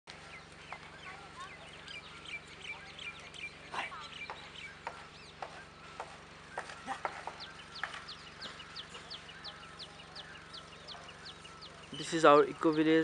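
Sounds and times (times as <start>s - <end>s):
birds chirping and clucking: 0.1s - 13.0s.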